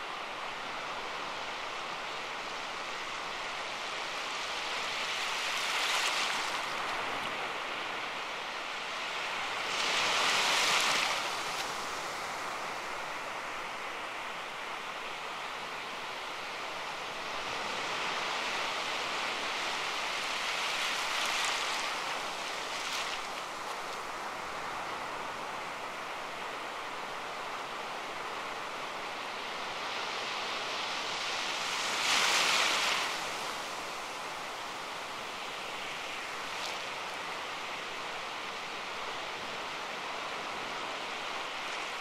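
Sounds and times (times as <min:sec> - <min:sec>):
soft rushing noise in waves: 0:00.0 - 0:42.0.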